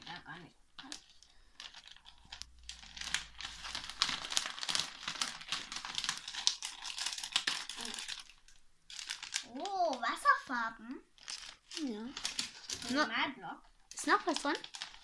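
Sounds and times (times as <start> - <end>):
foil bag crinkling: 0.0 - 10.6, 11.2 - 15.0.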